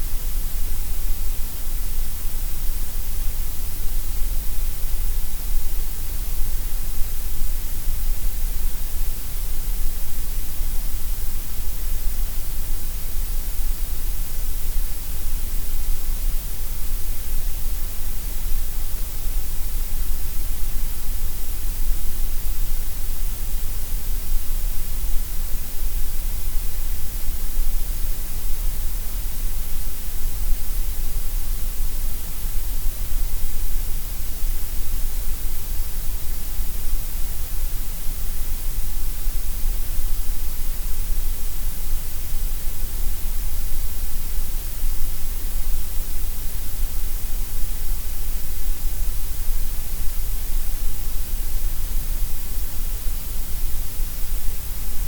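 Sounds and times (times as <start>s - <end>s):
gray noise hiss with deep rumble: 0.0s - 55.0s.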